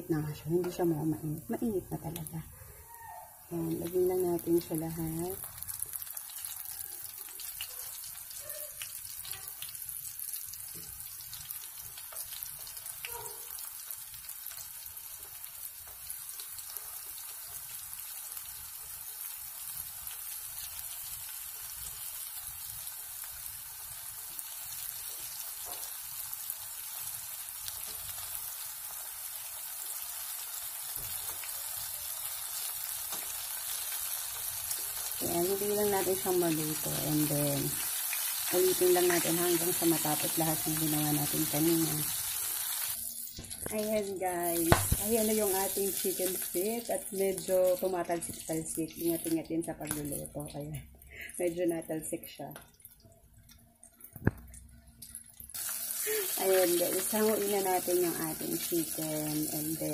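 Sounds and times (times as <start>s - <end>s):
food deep-frying in hot oil: 0.1s - 2.4s, 3.0s - 50.7s, 52.6s - 59.9s.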